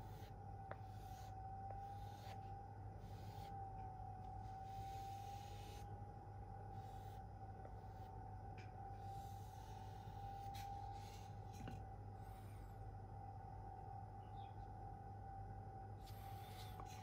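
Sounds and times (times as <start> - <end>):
faint steady whine: 0.0 - 17.0
low hum: 0.0 - 17.0.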